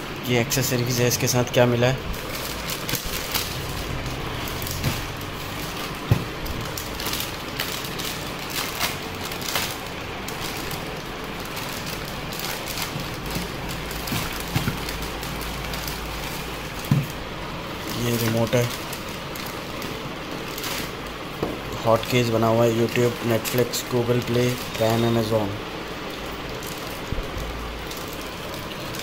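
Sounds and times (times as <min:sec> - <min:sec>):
plastic bags crinkling: 0:00.2 - 0:29.0.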